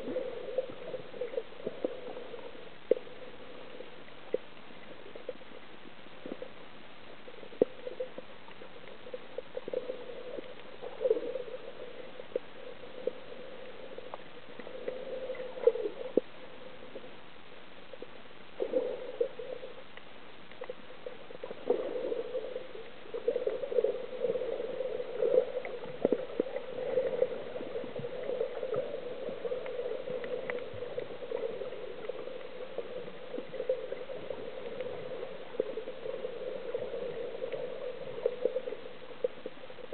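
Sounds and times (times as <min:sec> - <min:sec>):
muffled water gurgling: 0:00.0 - 0:39.9.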